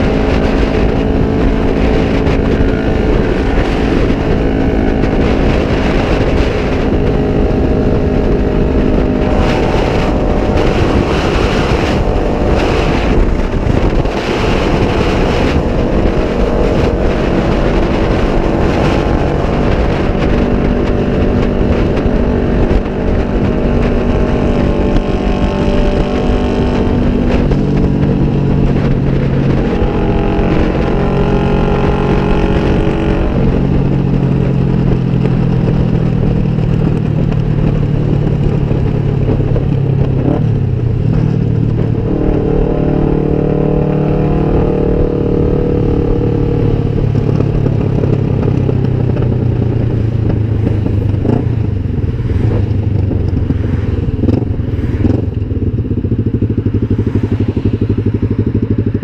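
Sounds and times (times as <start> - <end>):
motorcycle engine at speed: 0.0 - 59.0
wind rushing over microphone: 0.0 - 59.0.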